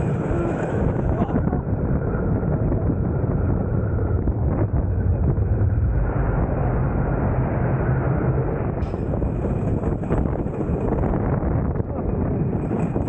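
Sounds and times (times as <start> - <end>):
roller coaster wheels rumbling: 0.0 - 13.0
wind buffeting microphone: 0.0 - 13.0.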